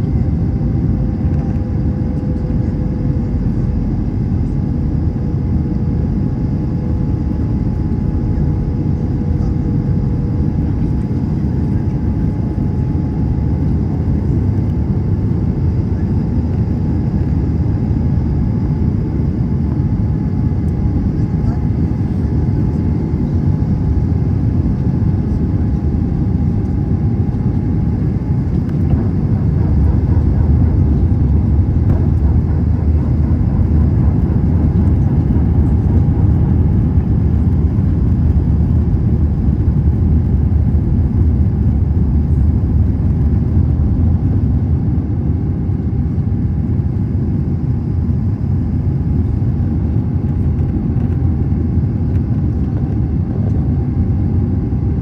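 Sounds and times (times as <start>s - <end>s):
faint steady whine: 0.0s - 54.8s
airliner cabin engine rumble: 0.0s - 55.0s.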